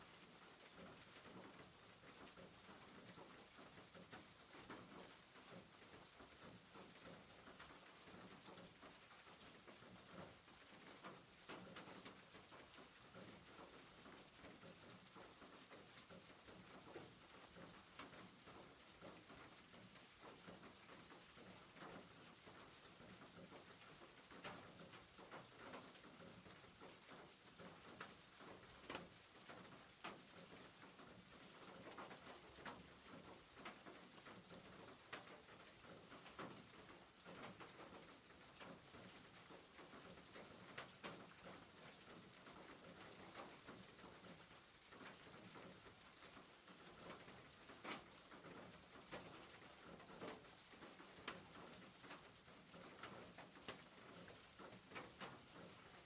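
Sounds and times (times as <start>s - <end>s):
rain pattering on a roof: 0.0s - 56.0s.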